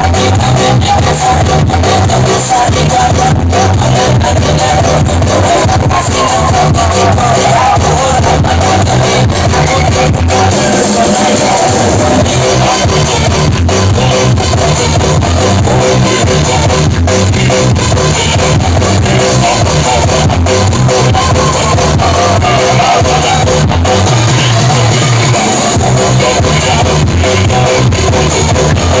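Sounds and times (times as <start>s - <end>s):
rock music over loudspeakers: 0.0s - 29.0s.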